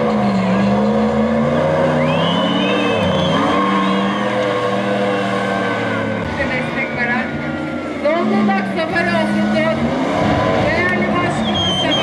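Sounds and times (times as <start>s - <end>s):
engine labouring under load: 0.0s - 12.0s.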